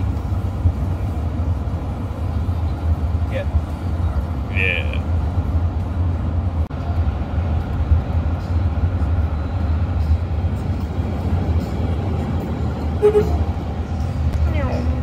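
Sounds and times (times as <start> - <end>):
road and engine rumble inside vehicle: 0.0 - 15.0.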